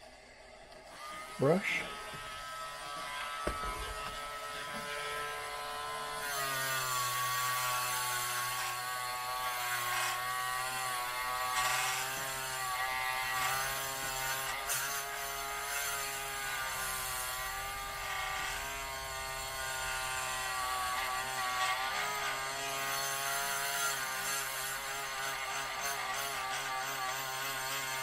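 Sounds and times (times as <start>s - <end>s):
rotary tool whining: 0.5s - 28.0s.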